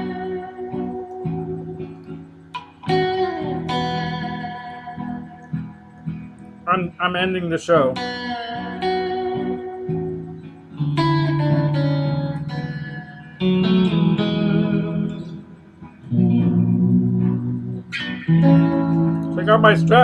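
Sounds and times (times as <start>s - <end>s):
electric guitar chords ringing: 0.0s - 20.0s.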